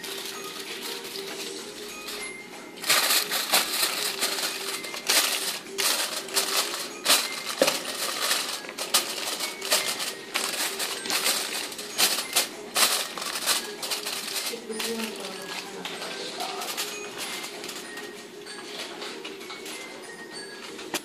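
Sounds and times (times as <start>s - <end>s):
aluminium foil crinkling: 0.0s - 18.2s.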